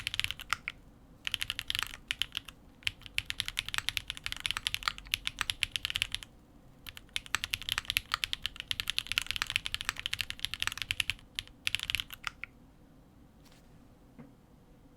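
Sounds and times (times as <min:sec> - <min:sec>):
mechanical keyboard typing: 0:00.0 - 0:12.5.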